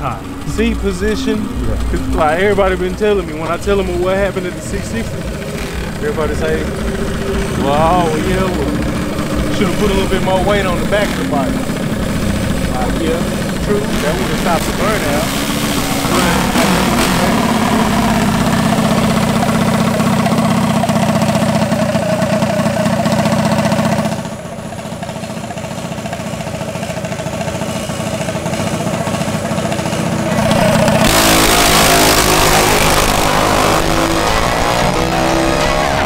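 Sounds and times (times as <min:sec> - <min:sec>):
minibike engine running: 0:00.0 - 0:36.0.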